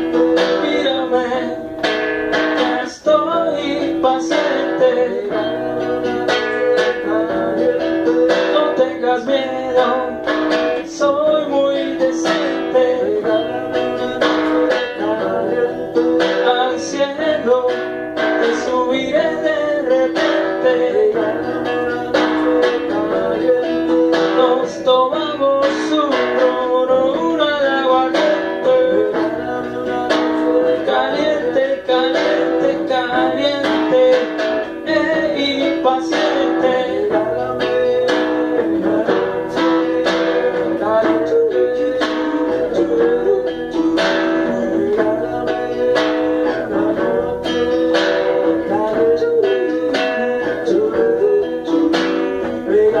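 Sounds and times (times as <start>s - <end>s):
guitar strumming: 0.0s - 53.0s.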